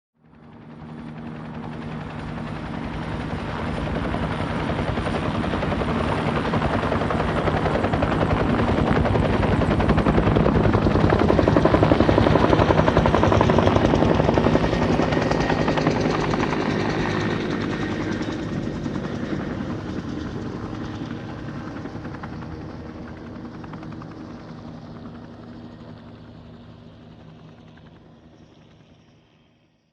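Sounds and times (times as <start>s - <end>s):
helicopter flying past: 0.2s - 29.8s.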